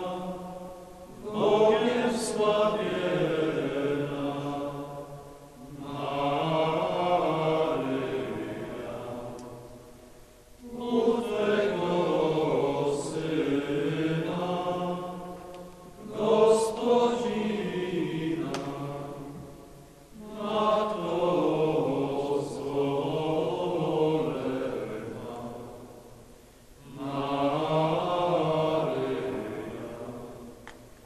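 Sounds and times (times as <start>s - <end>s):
voices singing slow chant: 0.0s - 31.0s.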